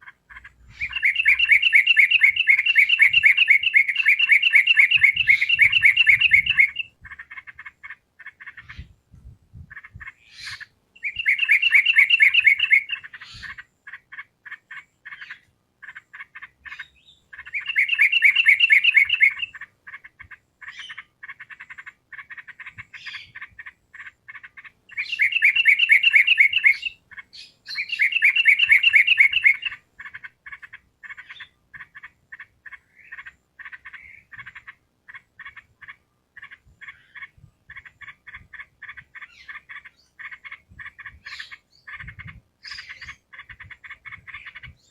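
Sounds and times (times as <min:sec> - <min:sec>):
bulbul singing: 0:00.0 - 0:08.9, 0:09.6 - 0:44.9.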